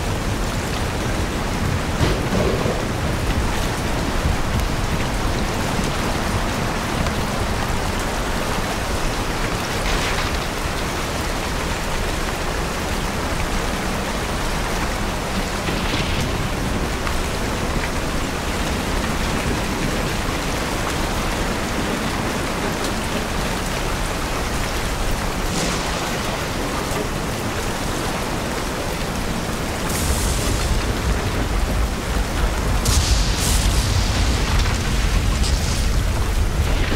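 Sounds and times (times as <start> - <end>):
low rumble of thunder: 0.0 - 11.5, 13.4 - 36.9
steady rain hiss: 0.0 - 36.9.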